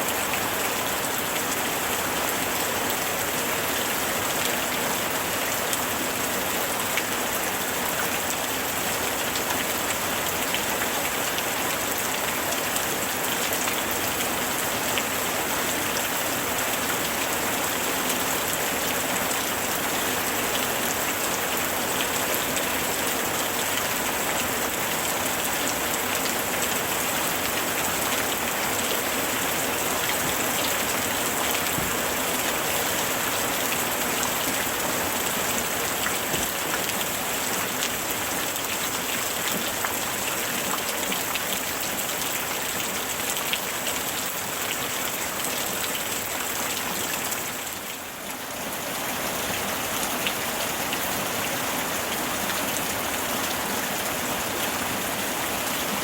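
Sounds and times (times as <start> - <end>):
rain pattering: 0.0 - 48.6.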